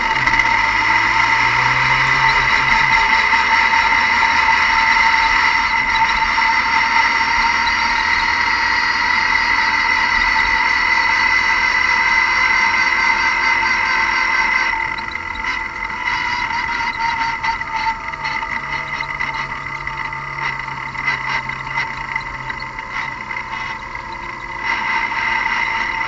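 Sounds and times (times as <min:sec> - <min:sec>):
car engine idling: 0:00.0 - 0:26.0
steady high whine: 0:00.0 - 0:26.0.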